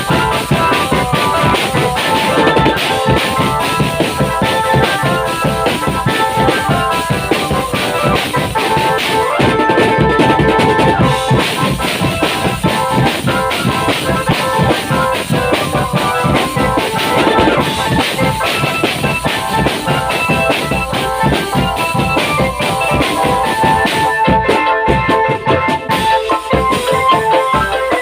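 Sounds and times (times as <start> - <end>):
fast dense drumming: 0.0 - 28.0
held melody line: 0.0 - 28.0.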